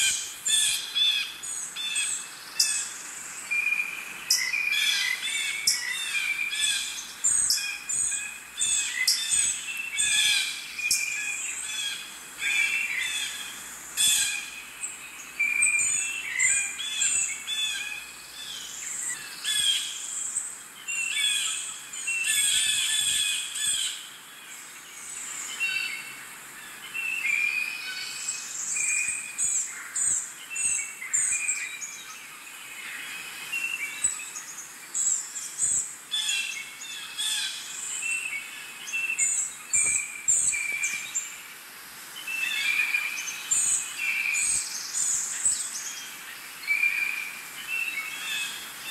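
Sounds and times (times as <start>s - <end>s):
birds chirping and trilling: 0.0s - 48.9s.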